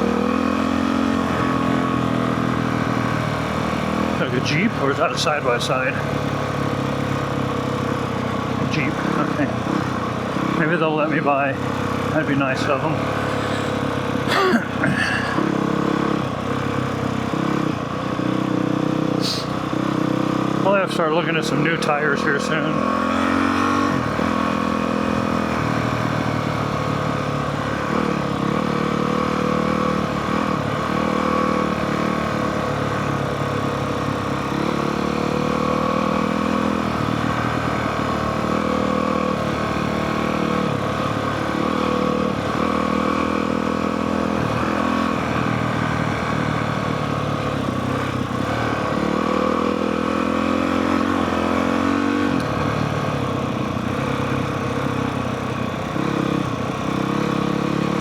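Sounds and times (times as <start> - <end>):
dirt bike engine revving: 0.0 - 55.0, 55.7 - 58.0.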